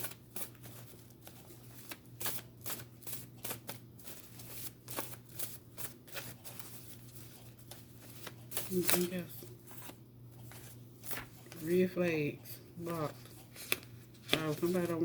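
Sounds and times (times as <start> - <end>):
cards being shuffled: 0.0 - 11.8, 12.8 - 15.0.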